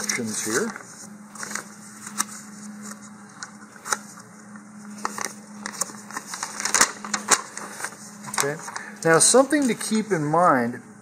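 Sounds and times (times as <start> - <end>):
paper rustling and crinkling: 0.0 - 10.0
faint steady hum: 0.0 - 11.0.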